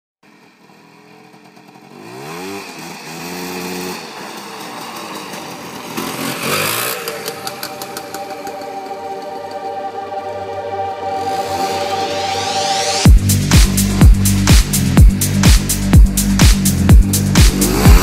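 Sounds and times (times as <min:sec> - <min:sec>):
atv engine revving: 0:00.3 - 0:09.0, 0:11.2 - 0:12.1, 0:13.2 - 0:18.0.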